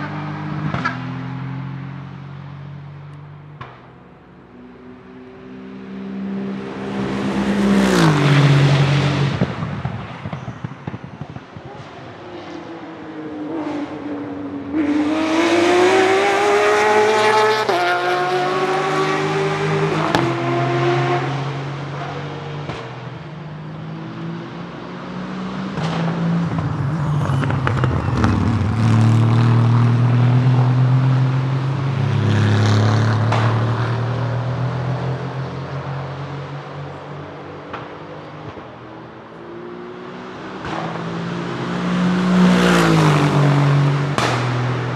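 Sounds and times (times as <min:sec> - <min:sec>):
race car engines accelerating hard: 0:00.0 - 0:03.8, 0:04.5 - 0:44.9.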